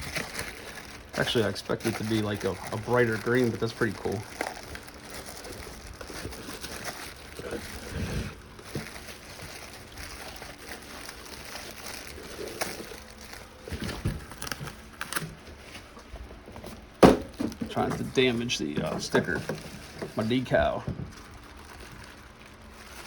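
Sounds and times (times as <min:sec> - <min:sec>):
packaging rustling and crinkling: 0:00.0 - 0:23.0.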